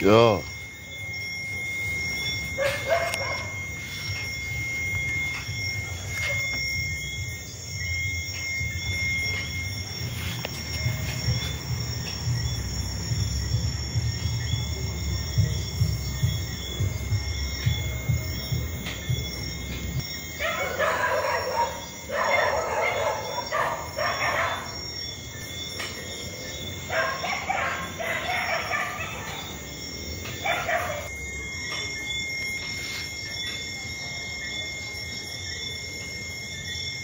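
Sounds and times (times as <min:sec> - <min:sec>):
steady high thin tone: 0:00.0 - 0:24.8, 0:25.8 - 0:34.9.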